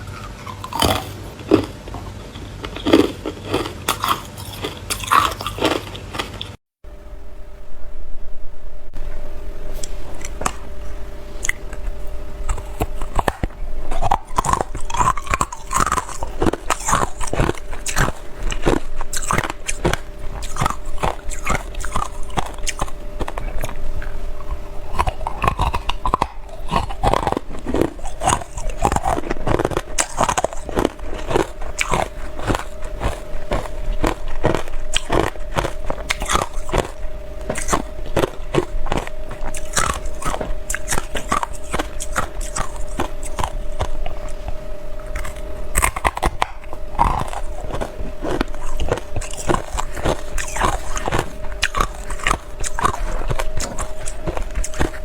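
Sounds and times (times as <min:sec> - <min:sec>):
ice being chewed: 0:00.0 - 0:06.6, 0:09.7 - 0:55.0
faint hum: 0:00.0 - 0:55.0.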